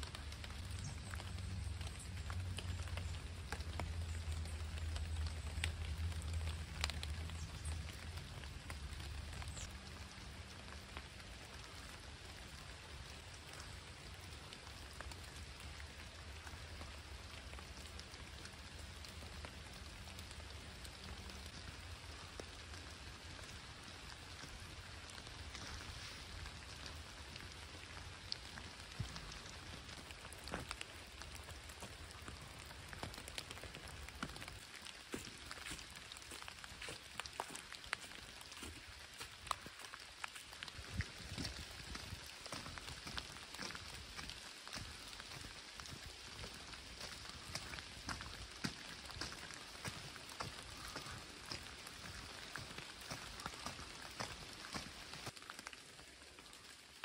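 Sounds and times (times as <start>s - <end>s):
light rain on foliage: 0.0s - 57.0s.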